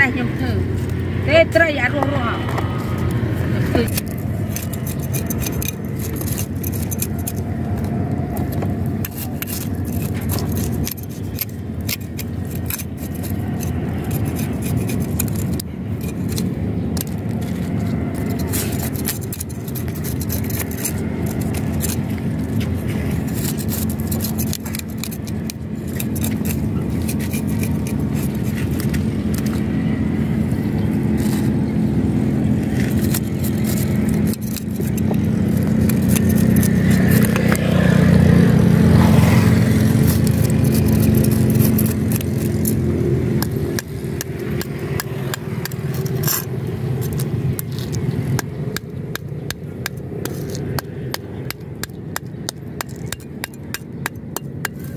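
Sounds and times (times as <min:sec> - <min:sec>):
low motor rumble: 0:00.0 - 0:54.9
knife scraping fish scales: 0:01.9 - 0:54.9.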